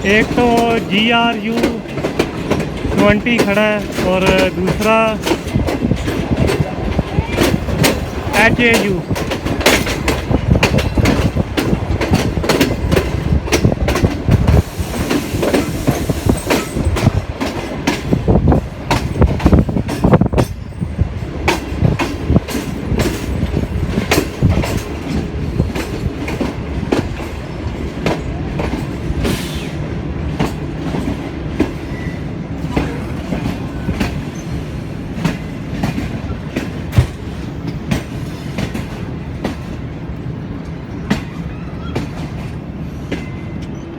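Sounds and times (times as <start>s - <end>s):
train wheels clattering over rail joints: 0.0s - 43.8s
train rumble: 0.0s - 43.9s.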